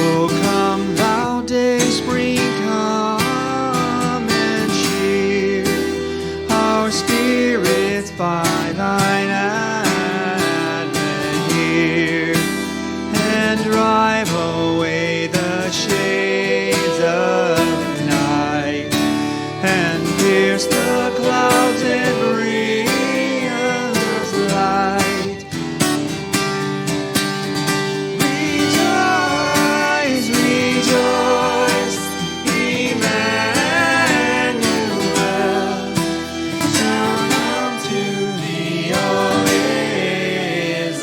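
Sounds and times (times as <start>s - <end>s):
person singing: 0.0s - 26.8s, 27.4s - 41.0s
acoustic guitar strumming: 0.0s - 41.0s.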